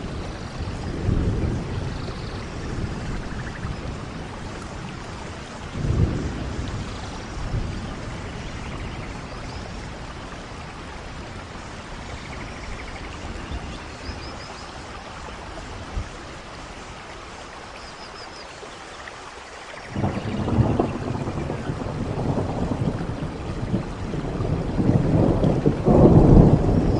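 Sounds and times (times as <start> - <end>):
thunder rumble: 0.0 - 17.2, 19.9 - 26.9
rain falling: 0.0 - 26.9.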